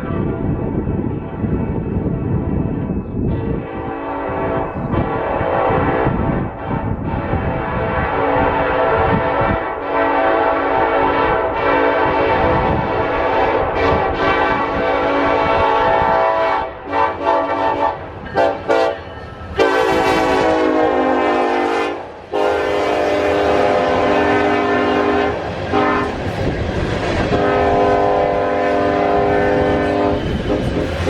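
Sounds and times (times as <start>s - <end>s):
rumble of train rolling by: 0.0s - 31.0s
locomotive air horn: 3.4s - 26.2s, 27.2s - 31.0s.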